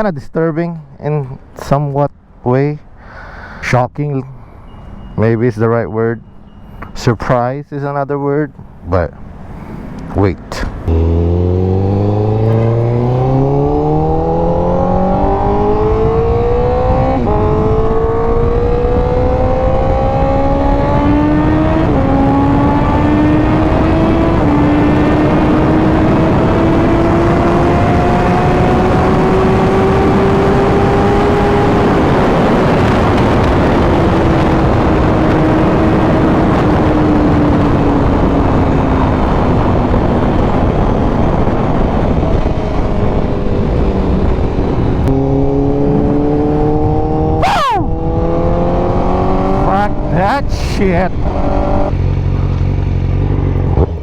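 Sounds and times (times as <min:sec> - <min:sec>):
wind noise: 0:04.4 - 0:54.0
motorcycle engine accelerating: 0:10.7 - 0:54.0.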